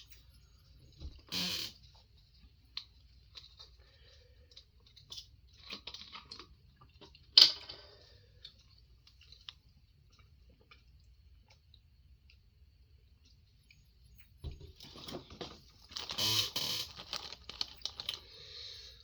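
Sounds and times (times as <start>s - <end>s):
chewing and wet mouth sounds: 1.8s - 16.0s, 17.0s - 18.7s.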